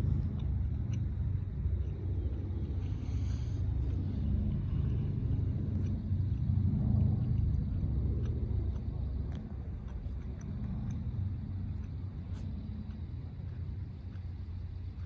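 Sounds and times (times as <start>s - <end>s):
distant aircraft engines droning: 0.0s - 15.0s.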